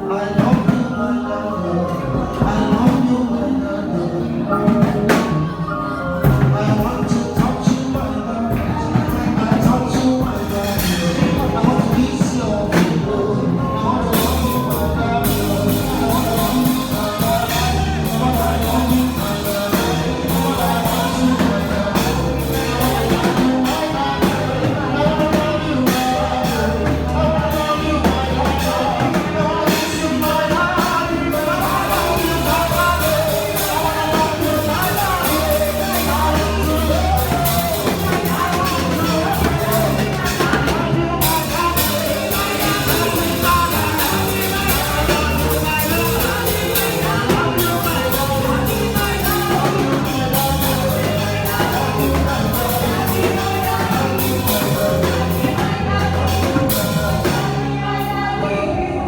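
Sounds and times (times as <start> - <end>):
bass line: 0.0 - 59.0
drums: 0.0 - 59.0
person singing lead vocals: 0.0 - 59.0.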